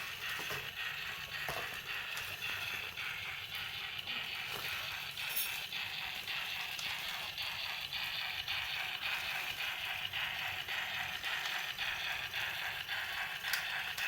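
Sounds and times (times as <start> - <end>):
toy train clicking: 0.0 - 14.0
toy train motor whirring: 0.0 - 14.0.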